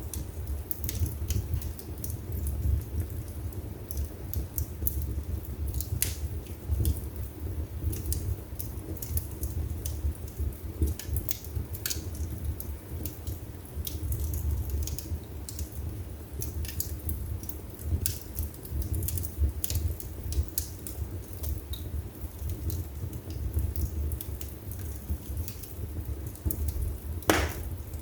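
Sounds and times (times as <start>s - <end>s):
burning logs crackling and popping: 0.0s - 28.0s
flames rumbling: 0.0s - 28.0s.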